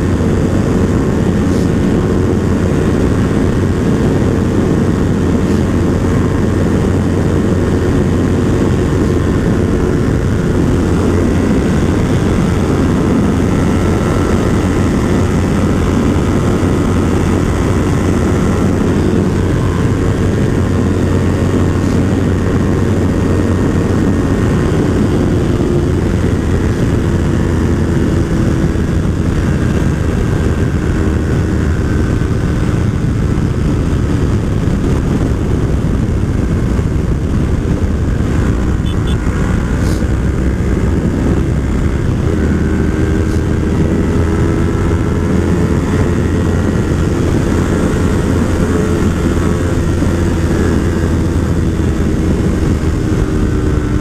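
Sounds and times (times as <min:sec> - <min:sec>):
heavy wind rush: 0:00.0 - 0:54.0
motorcycle engine running hard: 0:00.0 - 0:54.0.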